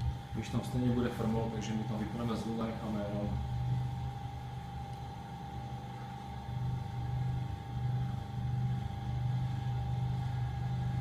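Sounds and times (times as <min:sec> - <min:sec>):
potter's wheel motor hum: 0:00.0 - 0:11.0
thin constant whine: 0:00.0 - 0:11.0.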